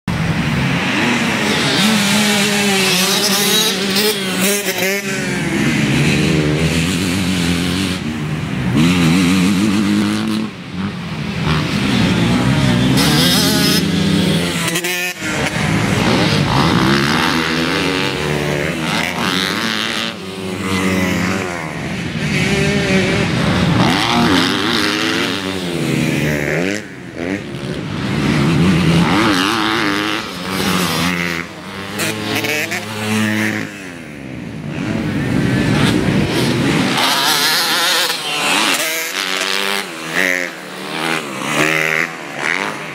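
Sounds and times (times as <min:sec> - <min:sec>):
dirt bike engines revving: 0:00.1 - 0:42.9.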